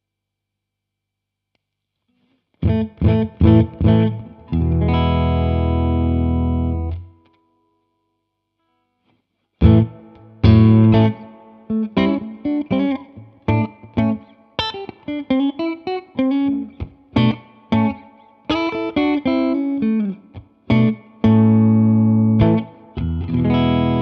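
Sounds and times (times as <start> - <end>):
electric guitar notes and chords: 2.6 - 7.4, 9.6 - 24.0.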